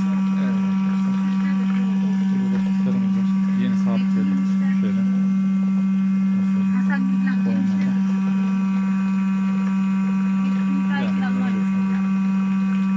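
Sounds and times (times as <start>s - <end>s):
cream separator humming: 0.0s - 12.9s.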